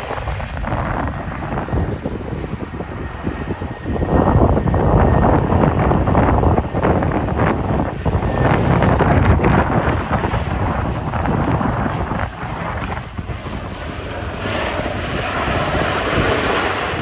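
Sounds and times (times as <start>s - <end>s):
turboprop engines: 0.0s - 17.0s
wind buffeting microphone: 0.0s - 17.0s.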